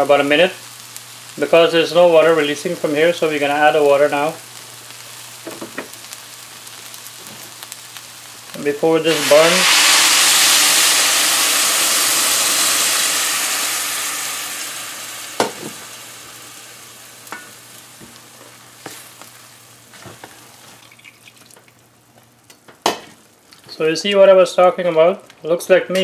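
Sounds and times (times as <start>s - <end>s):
water sizzling in hot pot: 0.0s - 23.6s.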